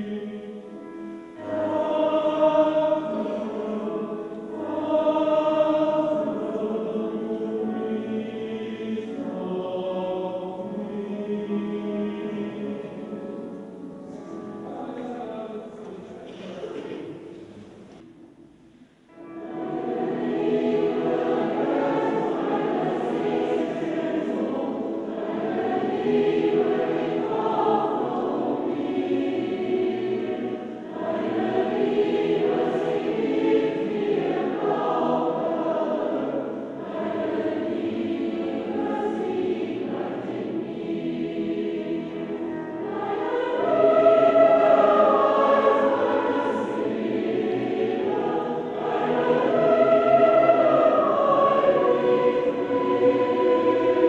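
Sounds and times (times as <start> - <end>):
mixed choir singing: 0.0 - 14.8, 19.1 - 54.0.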